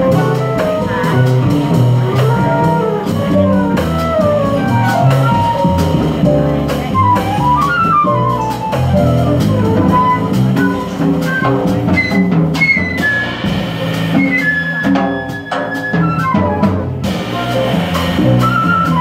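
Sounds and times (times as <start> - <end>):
drums: 0.0 - 19.0
jazz flute solo: 0.0 - 19.0
plucked double bass: 0.0 - 19.0.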